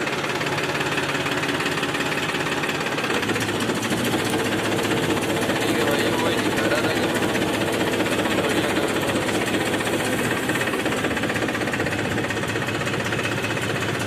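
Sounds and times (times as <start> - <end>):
tractor diesel engine clattering: 0.0 - 14.0.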